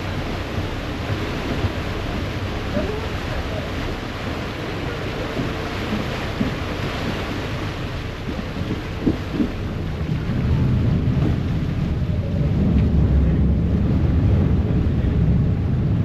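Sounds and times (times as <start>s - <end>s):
ferry wake churning: 0.0s - 16.0s
wind on microphone: 0.0s - 16.0s.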